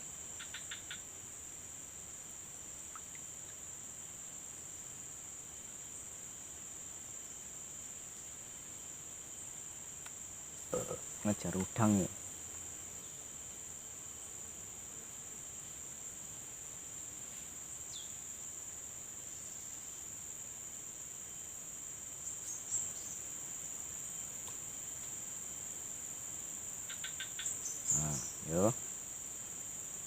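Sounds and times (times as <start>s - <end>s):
insect chorus high drone: 0.0s - 30.0s.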